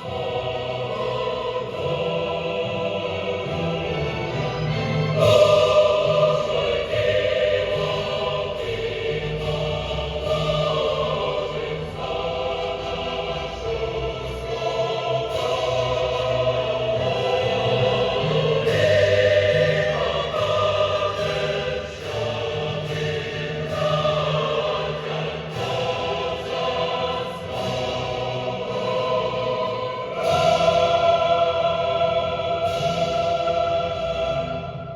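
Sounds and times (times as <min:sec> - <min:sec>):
choir singing: 0:00.0 - 0:34.9
instrumental accompaniment: 0:00.0 - 0:34.9.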